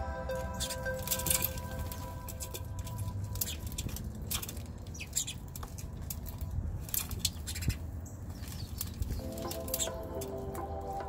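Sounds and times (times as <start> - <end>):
birds pecking at metal tray: 0.5 - 10.7.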